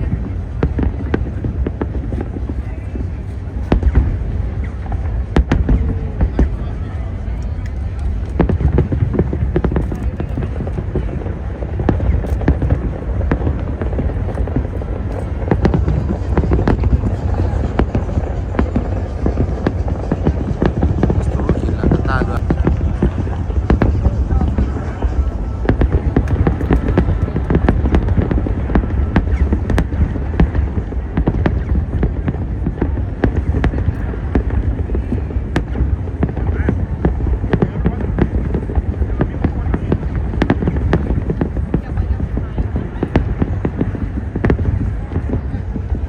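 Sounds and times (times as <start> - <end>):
continuous low rumble: 0.0 - 46.0
firework bangs: 0.0 - 46.0.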